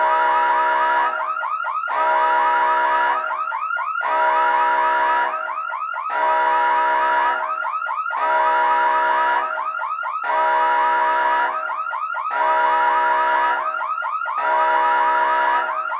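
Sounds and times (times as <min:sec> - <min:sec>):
electronic siren yelping: 0:00.0 - 0:15.9.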